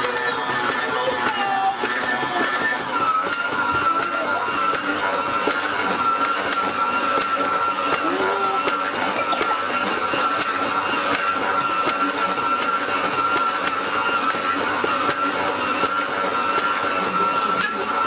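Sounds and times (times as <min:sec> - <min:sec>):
stand mixer motor whining: 0:00.0 - 0:18.0.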